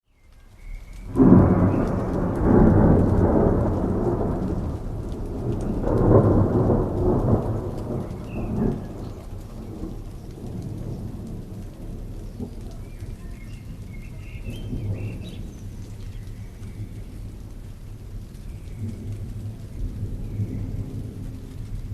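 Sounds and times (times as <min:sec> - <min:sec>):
falling rain: 0:00.0 - 0:21.9
thunder rumbling: 0:01.0 - 0:21.9.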